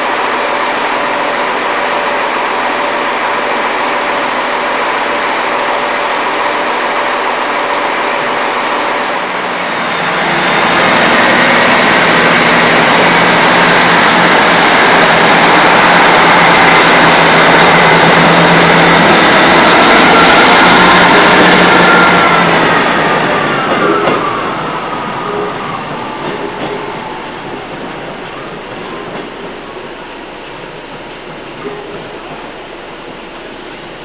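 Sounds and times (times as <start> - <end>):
diesel locomotive engine under load: 0.0 - 34.0.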